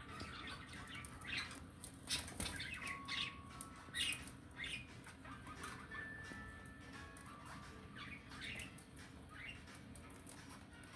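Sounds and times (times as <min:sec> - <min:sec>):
budgerigars chirping: 0:00.1 - 0:06.3, 0:07.2 - 0:09.9.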